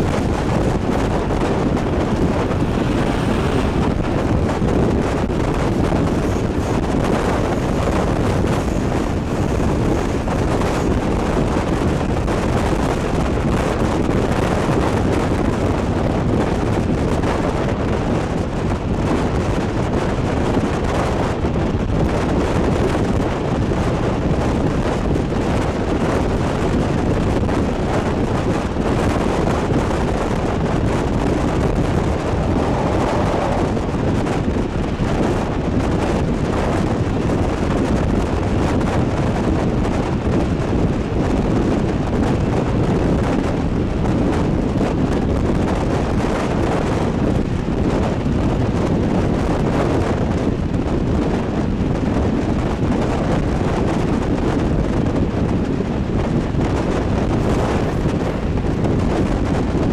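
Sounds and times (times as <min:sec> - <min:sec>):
train rumbling along the track: 0:00.0 - 0:59.9
wind buffeting the microphone: 0:00.0 - 0:59.9.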